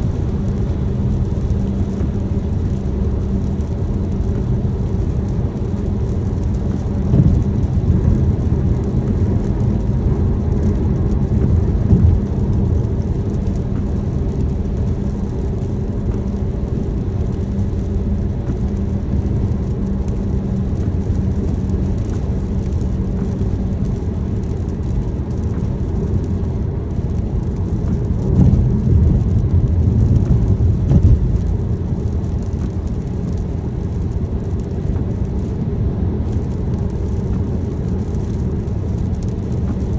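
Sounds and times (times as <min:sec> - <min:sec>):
car engine and tyre rumble: 0:00.0 - 0:39.9
rain hiss: 0:00.0 - 0:39.9.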